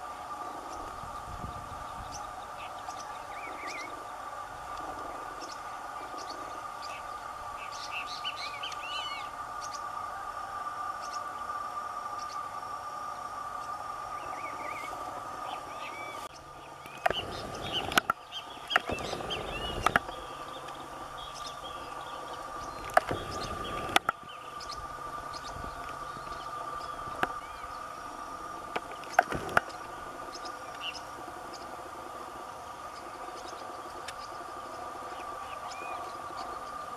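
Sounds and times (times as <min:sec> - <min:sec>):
steady background hum: 0:00.0 - 0:36.9
parrots chirping: 0:01.9 - 0:10.0, 0:14.1 - 0:36.9.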